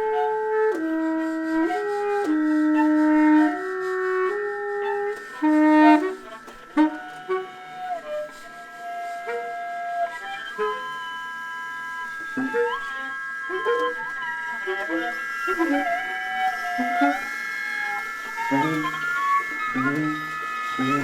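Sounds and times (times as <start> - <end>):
viola and saxophone playing: 0.0 - 21.0.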